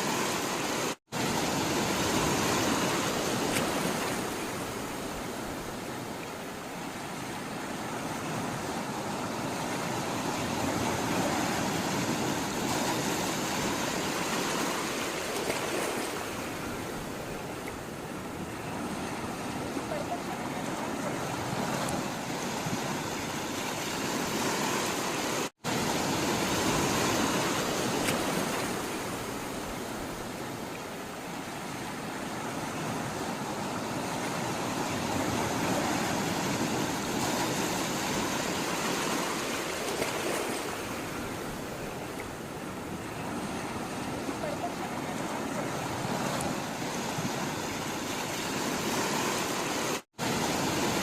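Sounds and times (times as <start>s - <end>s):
sea water rushing: 0.0s - 51.0s.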